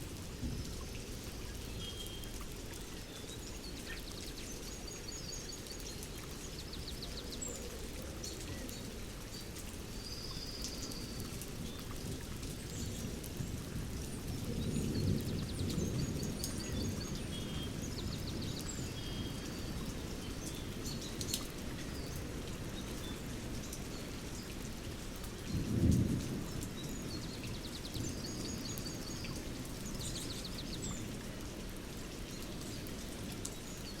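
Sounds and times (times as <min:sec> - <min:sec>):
rain-like hiss: 0:00.0 - 0:34.0.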